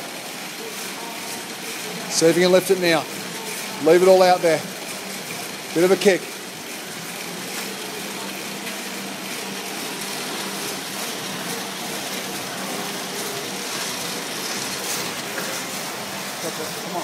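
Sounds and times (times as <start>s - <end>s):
fan bike wheel whooshing: 0.0s - 17.0s.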